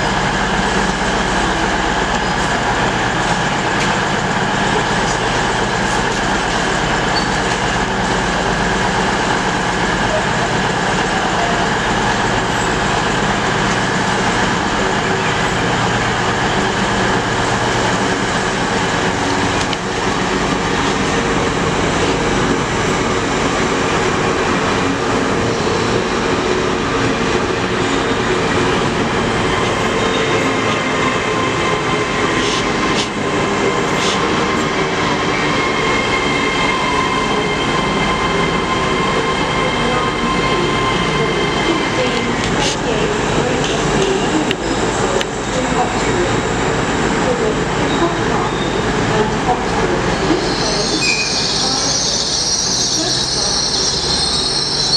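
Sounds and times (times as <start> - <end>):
high-pitched train whine: 0.0 - 54.9
train rumbling: 0.0 - 54.9.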